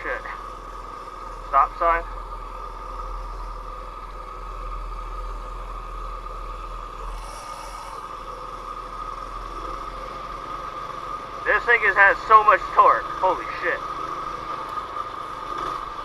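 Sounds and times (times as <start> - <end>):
engine whine: 0.0 - 16.0
small engine running: 0.0 - 16.0.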